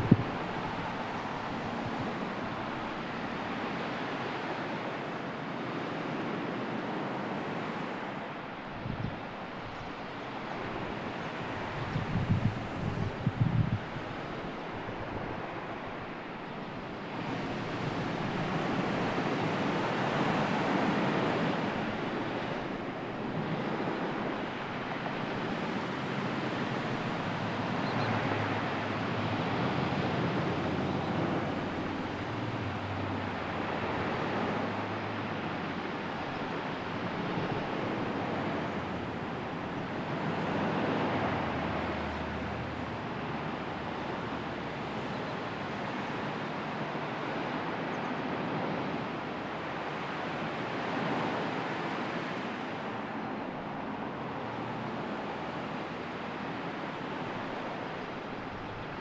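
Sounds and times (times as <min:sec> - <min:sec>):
sea surf washing: 0:00.0 - 0:59.0.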